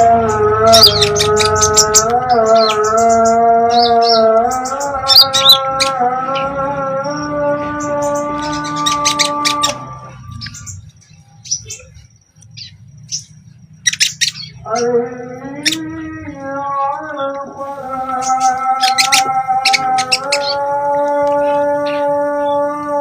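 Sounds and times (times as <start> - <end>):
songbird chirping and trilling: 0.0 - 23.0.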